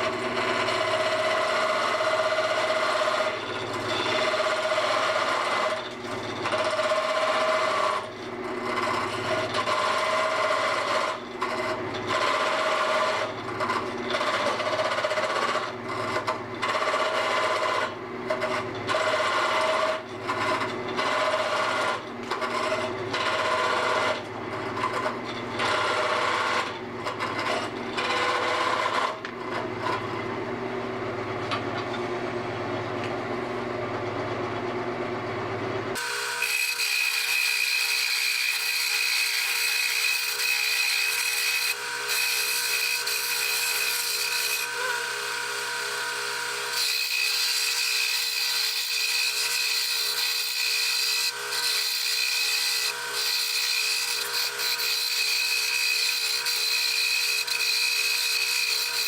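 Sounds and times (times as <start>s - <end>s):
turning tool cutting wood: 0.0s - 30.0s, 36.0s - 59.0s.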